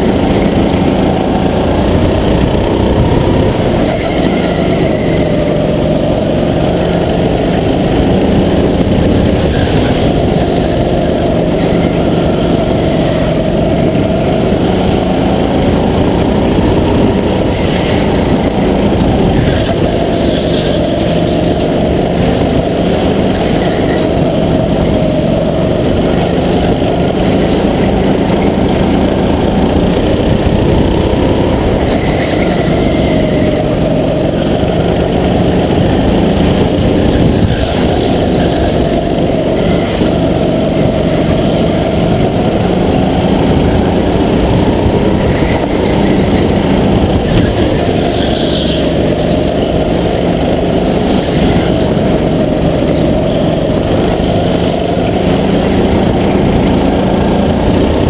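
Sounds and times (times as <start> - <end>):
go-kart engine at full throttle: 0.0 - 58.0.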